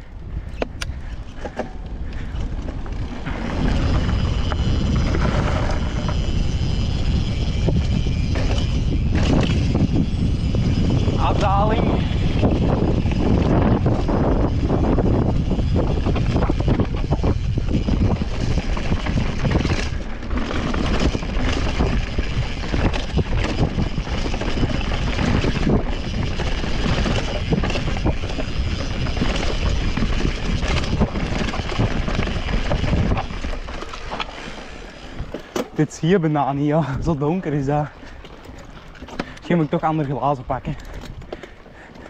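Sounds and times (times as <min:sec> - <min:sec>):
wind on microphone: 0:00.0 - 0:42.0
mountain bike clattering on trail: 0:00.3 - 0:42.0.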